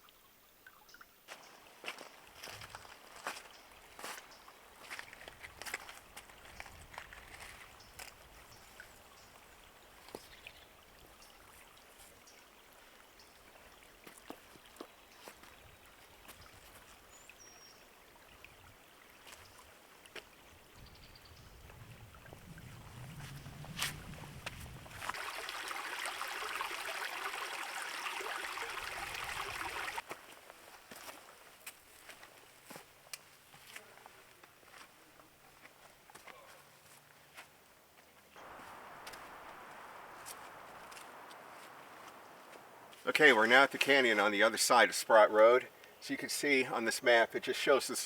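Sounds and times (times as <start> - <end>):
faint stream trickling: 0.0 - 48.0.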